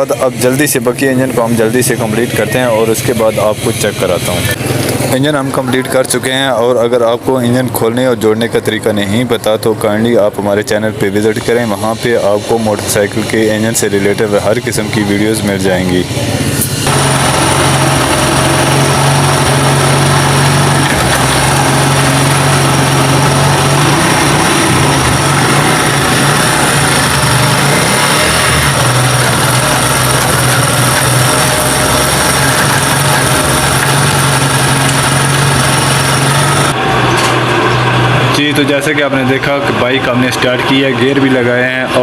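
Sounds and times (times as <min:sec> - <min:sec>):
motorcycle engine running: 0:00.0 - 0:07.7, 0:11.4 - 0:42.0.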